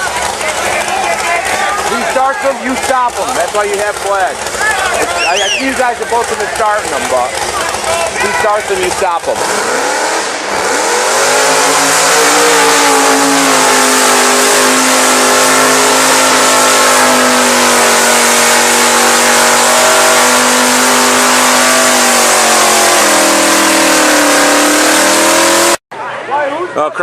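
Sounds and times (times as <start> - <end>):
truck engine at high revs: 0.0 - 25.8.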